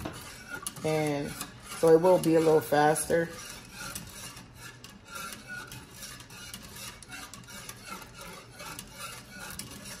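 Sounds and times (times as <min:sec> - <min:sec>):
whisk scraping a metal pot: 0:00.0 - 0:10.0.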